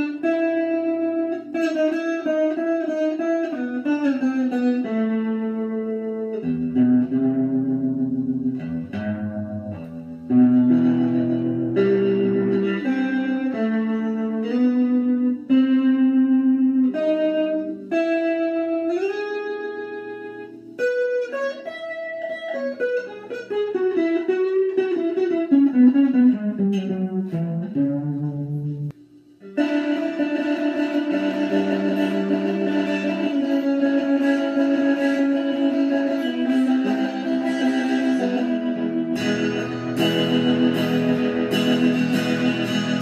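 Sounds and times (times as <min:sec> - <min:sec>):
electric guitar playing: 0:00.0 - 0:43.0.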